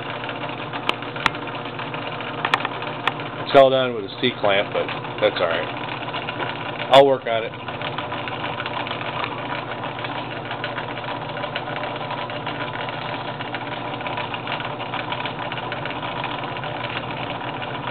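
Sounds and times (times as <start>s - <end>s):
lathe motor humming: 0.0s - 17.9s
rapid mechanical clatter: 0.0s - 17.9s.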